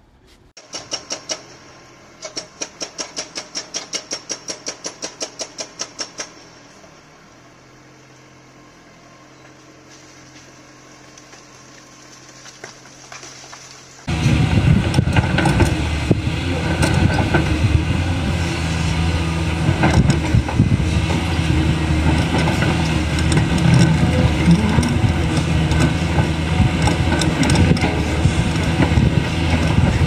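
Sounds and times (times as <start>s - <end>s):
excavator diesel engine running: 0.6s - 30.0s.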